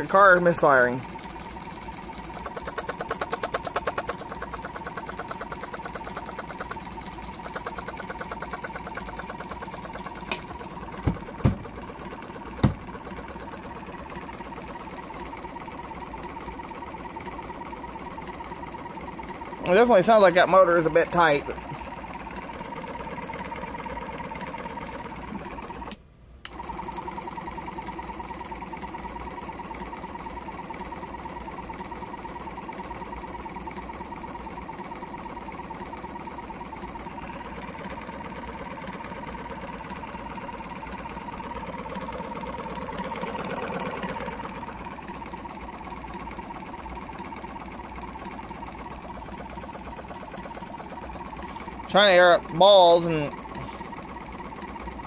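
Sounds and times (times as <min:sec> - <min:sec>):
air compressor motor chattering: 0:00.0 - 0:55.0.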